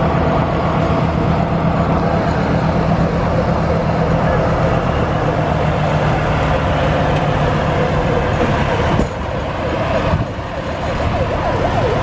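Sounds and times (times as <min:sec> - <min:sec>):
heavy truck engine rumbling: 0:00.0 - 0:12.0.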